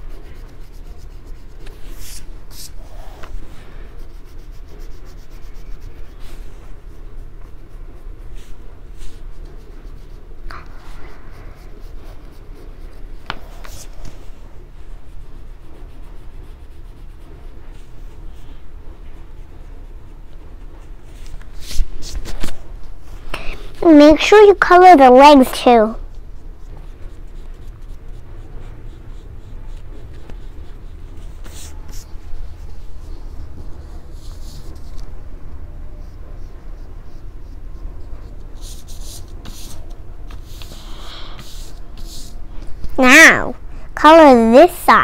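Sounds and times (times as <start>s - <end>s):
oil pastel scratching on paper: 0.0s - 22.5s, 23.8s - 35.2s, 35.9s - 42.4s.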